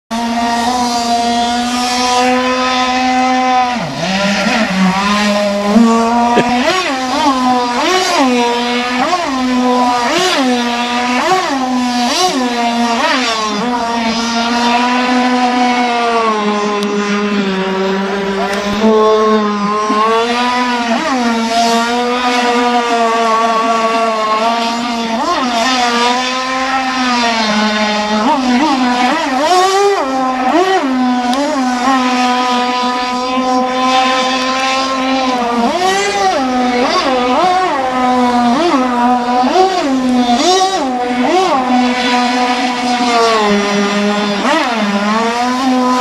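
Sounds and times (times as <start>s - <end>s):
model boat engine revving: 0.1s - 46.0s.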